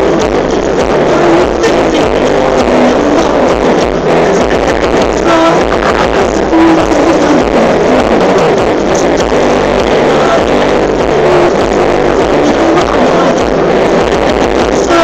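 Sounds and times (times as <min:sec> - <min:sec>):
loud dance music: 0:00.0 - 0:15.0.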